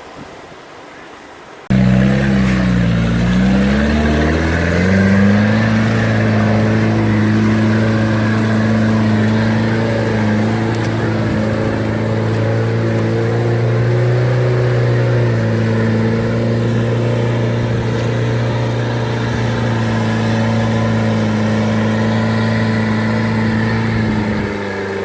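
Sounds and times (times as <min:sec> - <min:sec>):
engine revving under load: 0:01.7 - 0:25.0.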